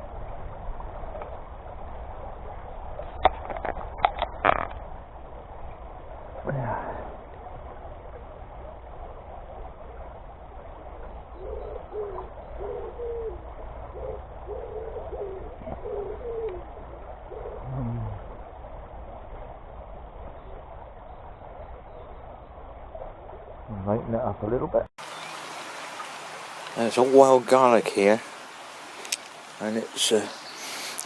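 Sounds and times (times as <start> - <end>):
steady low rumble: 0.0 - 24.9
bird calling low notes: 6.0 - 31.0.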